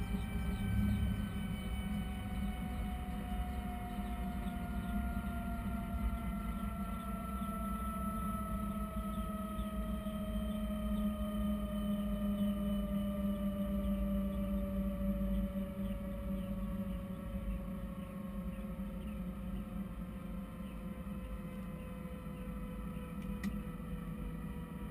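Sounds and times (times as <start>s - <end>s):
low rotor drone: 0.0s - 24.9s
turbine engine whining down: 0.0s - 24.9s.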